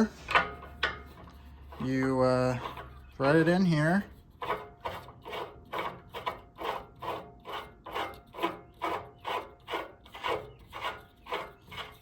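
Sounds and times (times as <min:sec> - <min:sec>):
threads rasping as screwed: 0:00.1 - 0:12.0.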